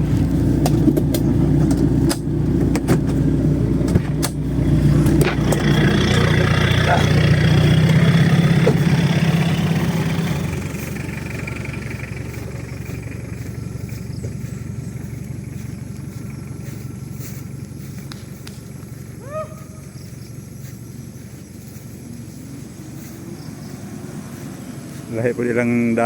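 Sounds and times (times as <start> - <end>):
off-road vehicle engine running: 0.0 - 26.0.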